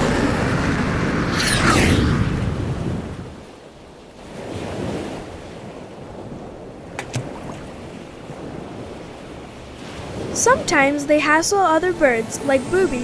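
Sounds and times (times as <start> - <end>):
wind noise: 0.0 - 3.6, 5.7 - 13.0
ocean surf: 0.0 - 6.5, 7.7 - 13.0.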